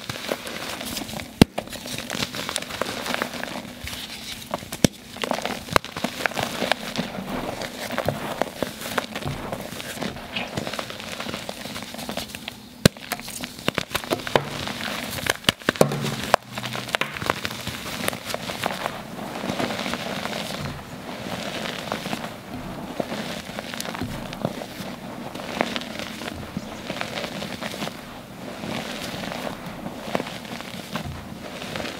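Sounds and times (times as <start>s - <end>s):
wet chalk crunching: 0.0s - 31.9s.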